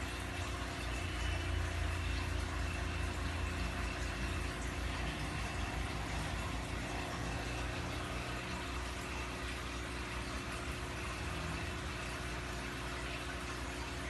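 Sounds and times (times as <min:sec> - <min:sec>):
aquarium pump humming: 0:00.0 - 0:14.0
bubbling water: 0:00.0 - 0:14.0.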